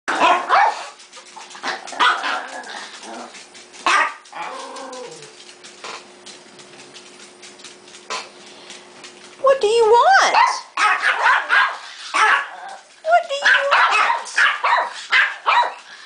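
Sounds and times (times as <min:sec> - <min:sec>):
small dogs barking and yipping: 0:00.1 - 0:07.3, 0:09.9 - 0:16.0.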